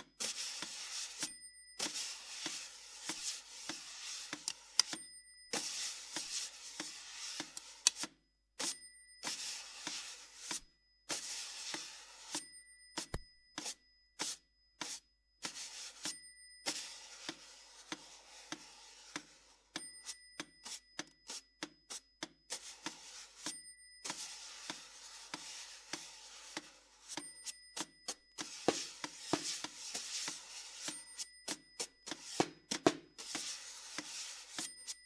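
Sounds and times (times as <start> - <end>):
taps and rubbing on snare drum: 0.0 - 35.0
high thin steady tones: 0.1 - 8.0, 8.6 - 35.0.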